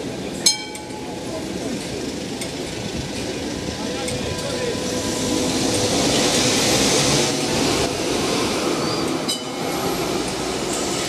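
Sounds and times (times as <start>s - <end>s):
tram wheels rumbling and hissing: 0.0s - 11.0s.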